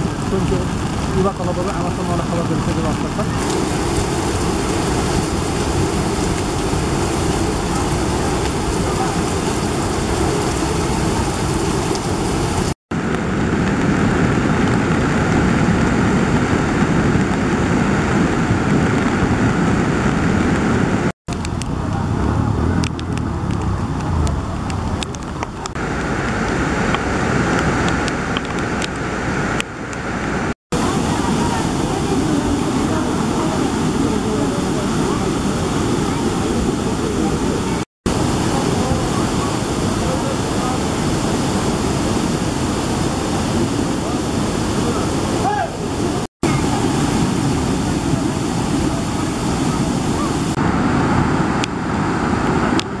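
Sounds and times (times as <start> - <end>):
flooded river rushing: 0.0 - 53.0.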